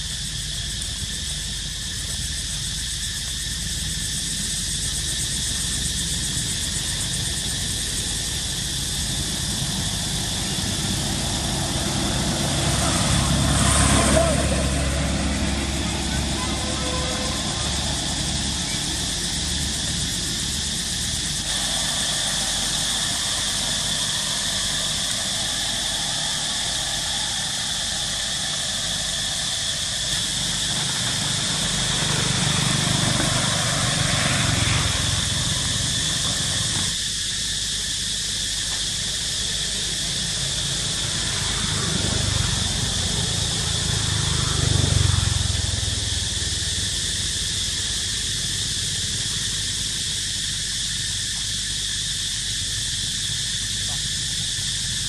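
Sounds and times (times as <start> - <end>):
high insect drone: 0.0 - 55.0
motor vehicles passing: 0.2 - 37.0, 38.6 - 50.4.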